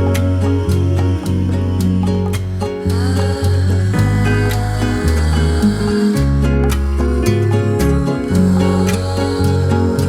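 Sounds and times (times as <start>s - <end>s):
plucked guitar: 0.0s - 10.0s
steady bass line: 0.0s - 10.0s.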